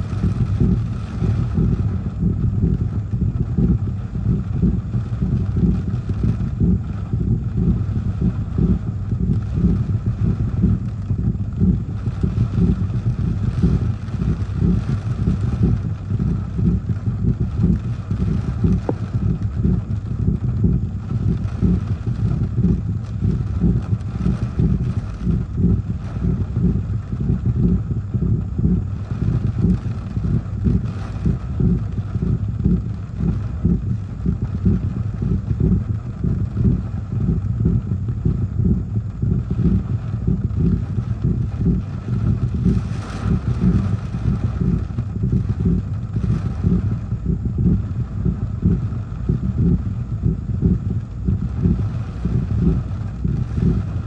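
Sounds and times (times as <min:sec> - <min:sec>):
gusty wind buffeting microphone: 0:00.0 - 0:54.0
rain on car: 0:00.0 - 0:54.0.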